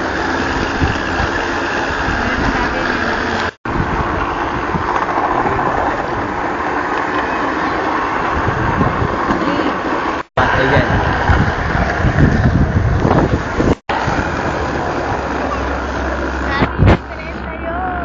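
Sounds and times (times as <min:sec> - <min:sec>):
trolley wheels rumbling on rails: 0:00.0 - 0:18.0.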